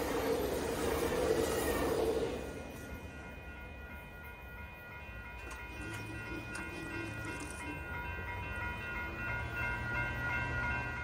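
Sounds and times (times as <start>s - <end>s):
commuter train passing: 0.0s - 11.0s
faint steady high tones: 0.0s - 11.0s.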